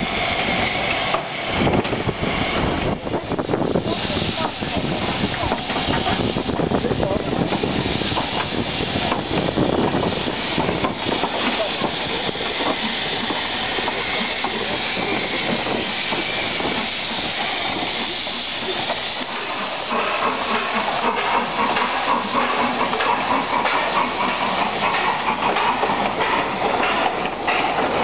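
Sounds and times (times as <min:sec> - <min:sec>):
steady train hiss: 0:00.0 - 0:28.0
train wheels clicking over rail joints: 0:00.2 - 0:28.0.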